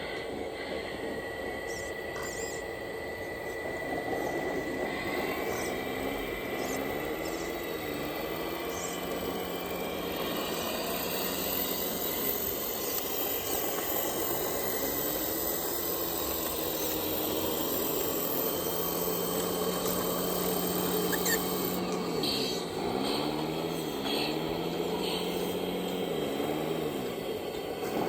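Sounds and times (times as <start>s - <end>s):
electric motor whining: 0.0s - 28.0s
steady hum: 0.0s - 28.0s.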